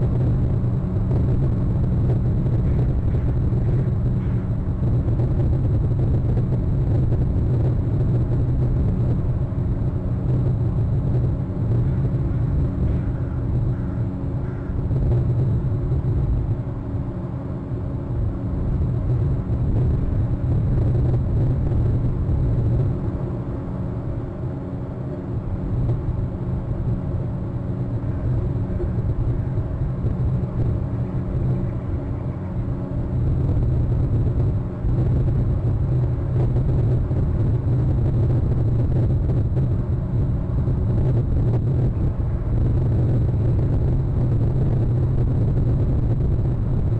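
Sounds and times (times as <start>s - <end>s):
low droning hum: 0.0s - 46.9s.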